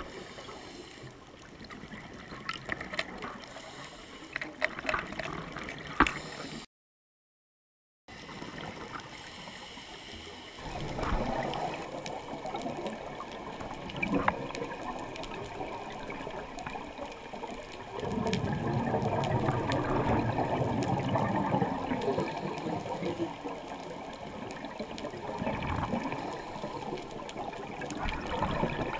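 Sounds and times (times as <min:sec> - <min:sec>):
underwater rushing water and bubbles: 0:00.0 - 0:06.6, 0:08.1 - 0:28.9.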